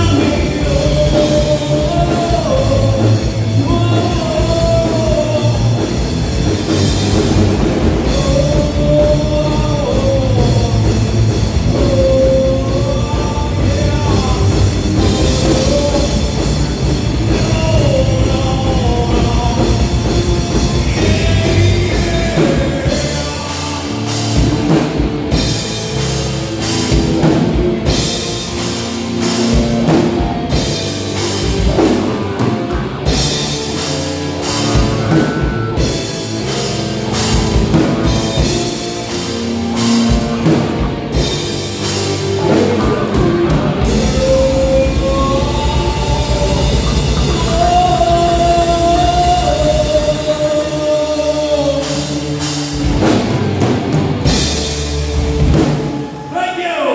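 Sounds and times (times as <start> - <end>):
guitar melody with bending notes: 0.0 - 56.3
rock band playing: 0.0 - 56.9.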